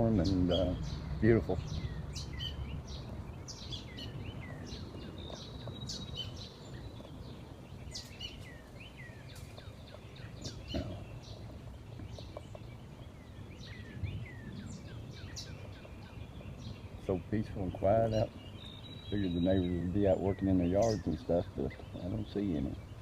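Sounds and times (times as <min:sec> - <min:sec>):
low background rumble: 0:00.0 - 0:23.0
wild birds chirping: 0:00.0 - 0:23.0.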